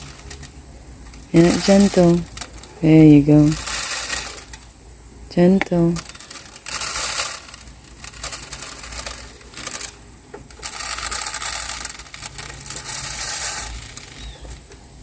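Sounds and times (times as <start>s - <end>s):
seed poured into feeder: 0.0s - 2.8s, 3.4s - 4.6s, 6.0s - 14.6s.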